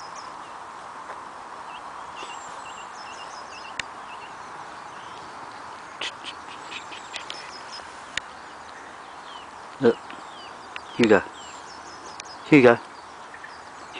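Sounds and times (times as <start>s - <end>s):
small birds chirping: 0.0s - 13.9s
steady outdoor hiss: 0.0s - 13.9s.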